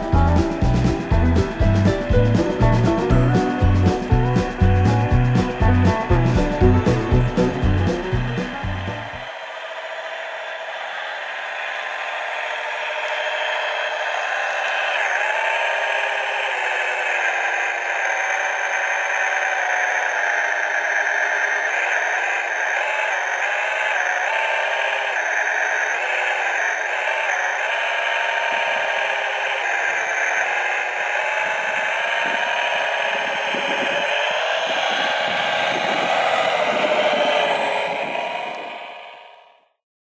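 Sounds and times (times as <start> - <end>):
toy truck drive whine: 0.0 - 39.7.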